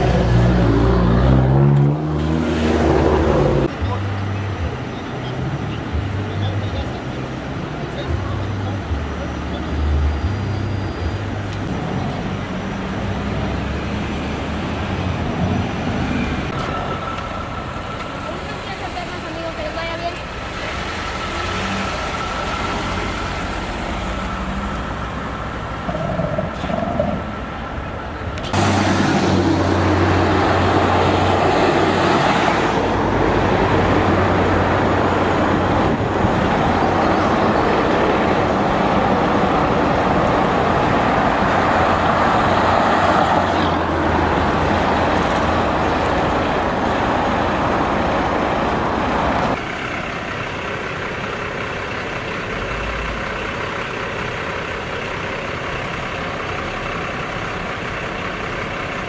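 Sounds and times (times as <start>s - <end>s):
highway traffic rumble: 0.0s - 59.0s.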